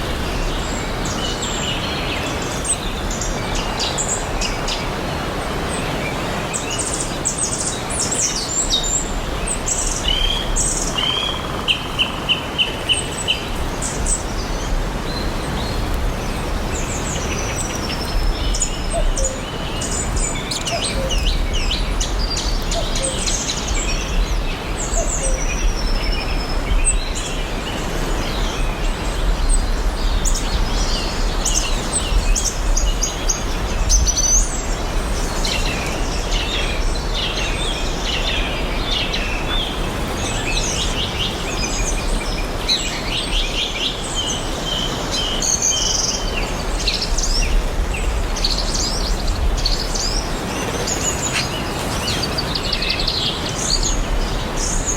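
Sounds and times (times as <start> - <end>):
forest ambience hiss: 0.0 - 54.9
birds chirping and trilling: 0.2 - 54.9.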